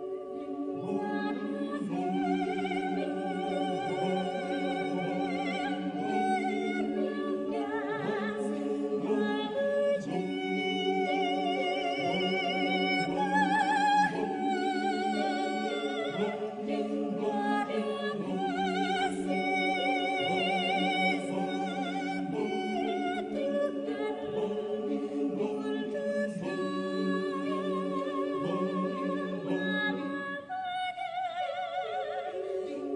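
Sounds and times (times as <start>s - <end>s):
mixed choir singing: 0.0s - 32.9s.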